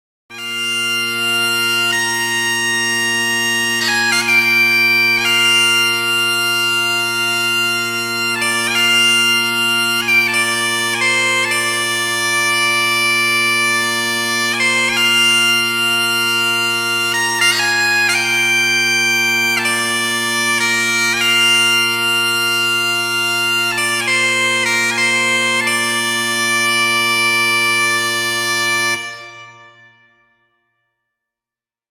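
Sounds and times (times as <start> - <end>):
bagpipe drone: 0.3 - 30.4
bagpipe chanter melody: 0.3 - 30.6.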